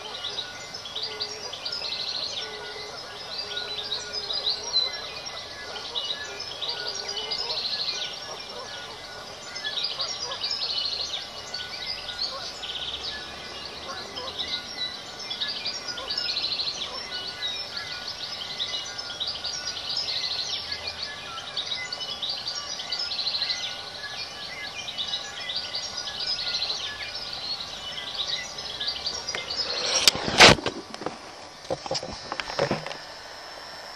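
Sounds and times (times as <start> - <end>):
lower bird chirps: 0.0 - 30.4.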